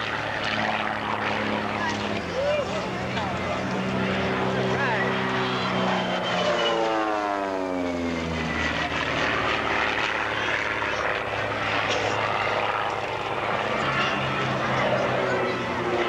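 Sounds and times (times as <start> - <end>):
propeller plane passing: 0.0 - 16.0.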